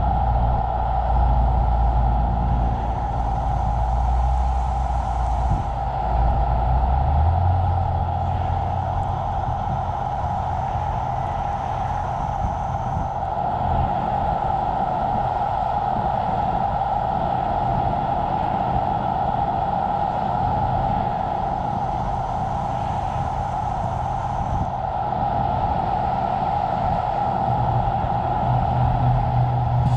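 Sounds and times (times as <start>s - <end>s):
low rumble: 0.0s - 29.9s
road and tyre noise: 0.0s - 29.9s.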